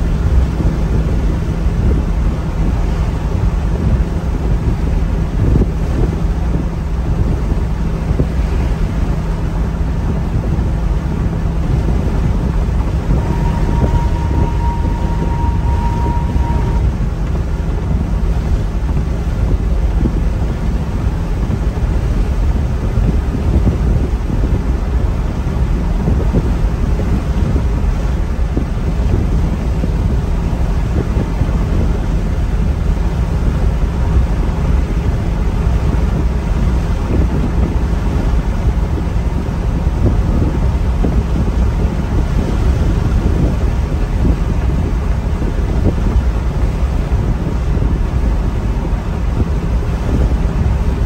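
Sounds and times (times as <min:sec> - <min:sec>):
car interior engine drone: 0:00.0 - 0:51.0
tyre and wind noise: 0:00.0 - 0:51.0.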